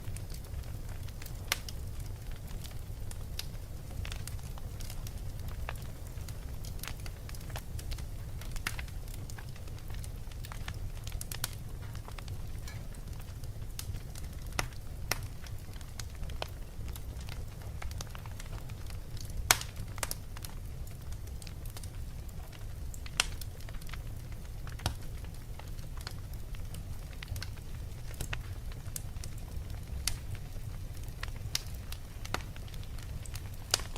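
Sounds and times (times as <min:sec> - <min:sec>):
fire crackling and popping: 0:00.0 - 0:33.9.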